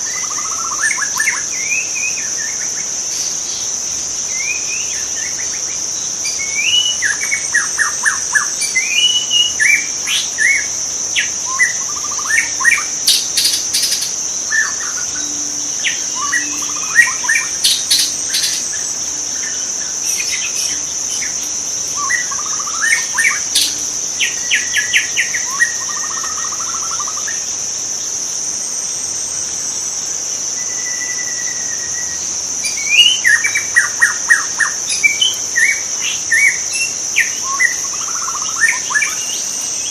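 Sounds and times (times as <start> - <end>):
bird singing whistles and trills: 0.0 - 3.7, 4.3 - 27.5, 30.6 - 39.9
high-pitched insect drone: 0.0 - 39.9.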